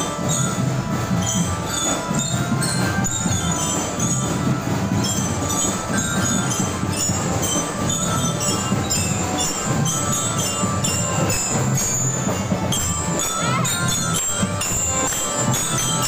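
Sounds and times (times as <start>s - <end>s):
high ringing bell notes: 0.0s - 16.0s
marching drums: 0.0s - 16.0s.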